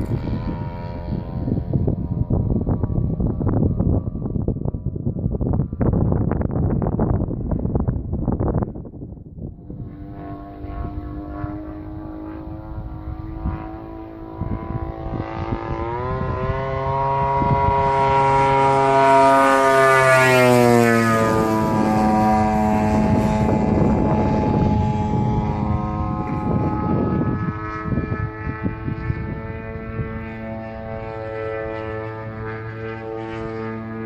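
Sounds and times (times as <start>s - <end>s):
model airplane engine buzzing: 0.0s - 34.0s.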